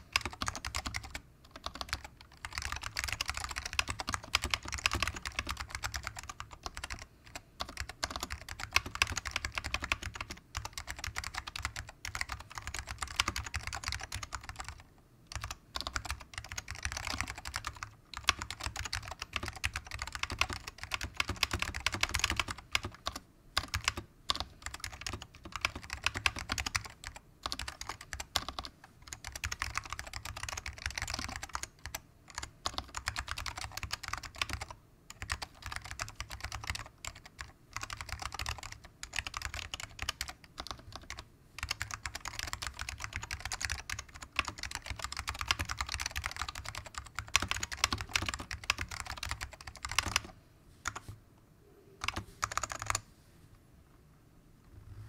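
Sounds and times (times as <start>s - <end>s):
fast typing on a keyboard: 0.0s - 51.0s, 52.0s - 53.0s.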